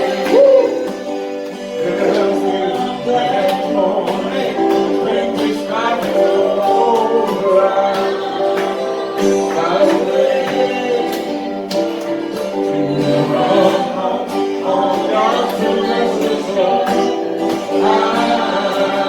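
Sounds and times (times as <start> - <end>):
gospel singing: 0.0 - 19.0
instrumental accompaniment: 0.0 - 19.0.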